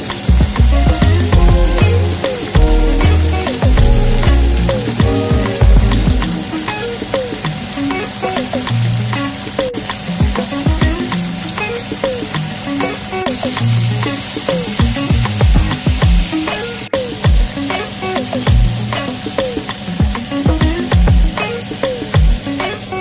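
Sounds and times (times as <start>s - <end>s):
background music with beat: 0.0s - 23.0s
vegetables sizzling in a pan: 0.0s - 23.0s.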